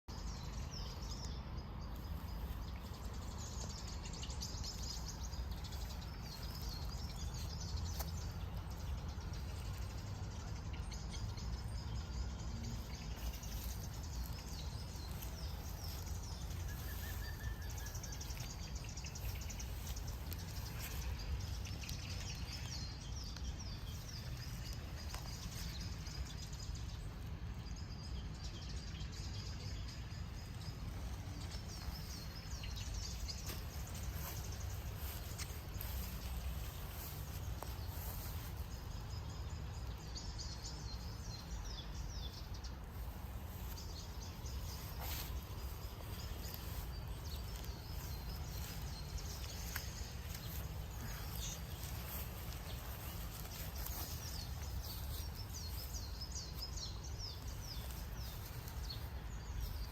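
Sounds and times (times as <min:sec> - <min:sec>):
small birds chirping: 0:00.0 - 0:59.9
steady low rumble: 0:00.1 - 0:59.9.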